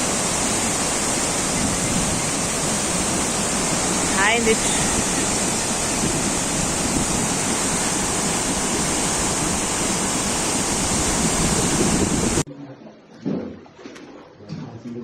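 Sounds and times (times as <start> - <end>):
rushing floodwater: 0.0 - 12.4.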